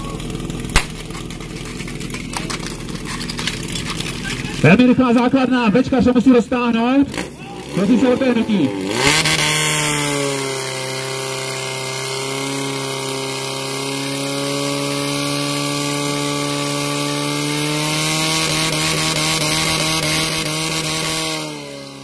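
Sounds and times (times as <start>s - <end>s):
fire pump engine running: 0.0s - 22.0s.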